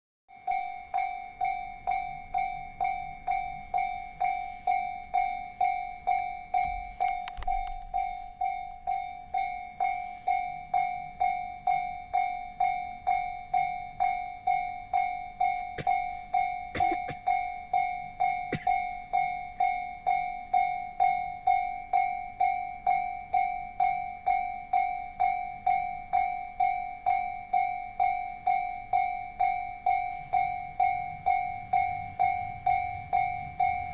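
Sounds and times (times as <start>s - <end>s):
level crossing bell clanging: 0.3s - 33.9s.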